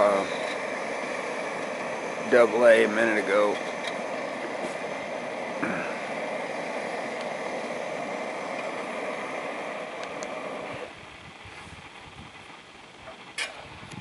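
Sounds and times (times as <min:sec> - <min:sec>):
stove burner roaring: 0:00.0 - 0:14.0.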